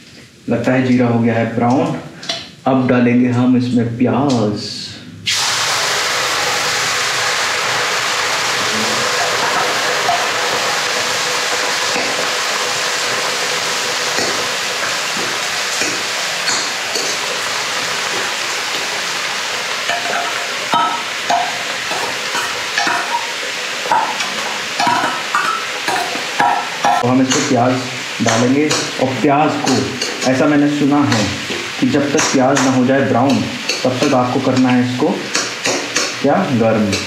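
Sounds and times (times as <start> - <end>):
onions sizzling in oil: 5.3 - 37.0.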